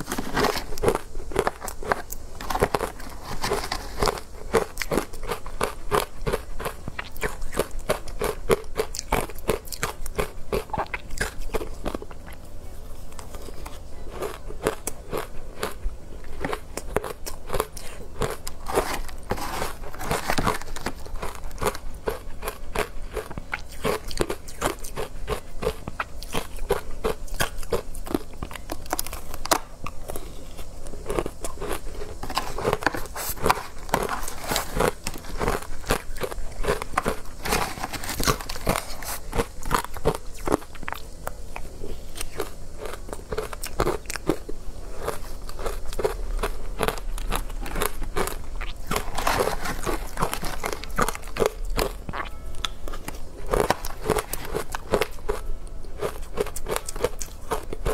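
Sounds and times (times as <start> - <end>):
biting and chewing ice: 0.0 - 57.9.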